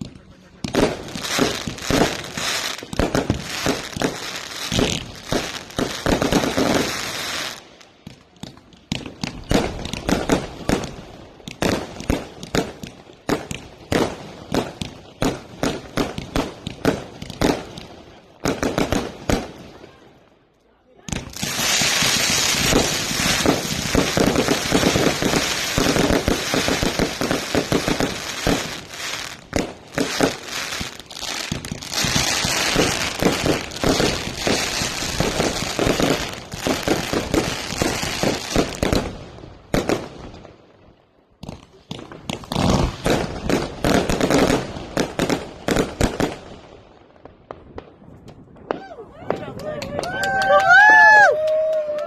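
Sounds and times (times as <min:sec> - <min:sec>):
fireworks crackling and popping: 0:00.0 - 0:52.0.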